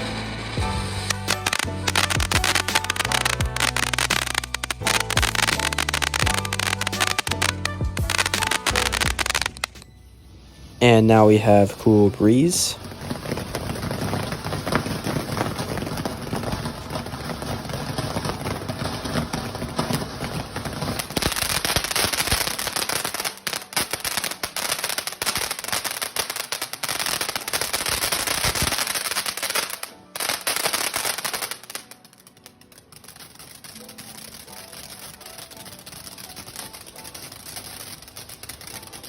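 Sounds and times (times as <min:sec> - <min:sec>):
firework crackling: 0:00.0 - 0:39.0
firework fountain hissing: 0:00.0 - 0:39.0.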